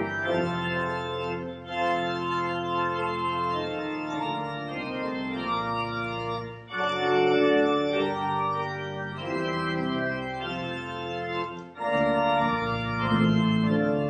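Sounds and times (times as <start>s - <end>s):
church organ chords: 0.0s - 14.0s.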